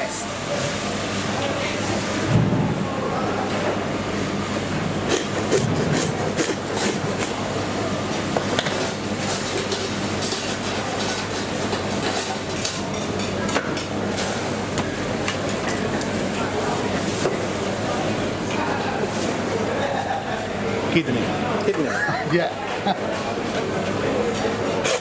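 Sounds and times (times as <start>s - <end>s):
street market background noise: 0.0s - 25.0s.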